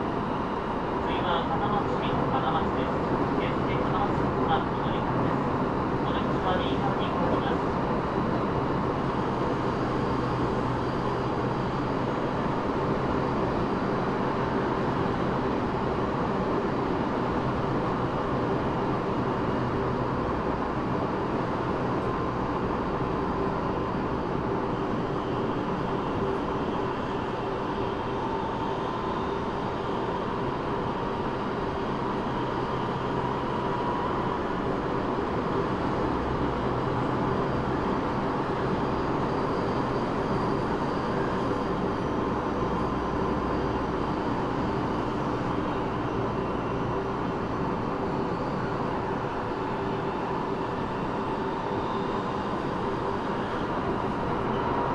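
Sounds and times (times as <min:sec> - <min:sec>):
subway wheels rolling on rails: 0:00.0 - 0:54.9.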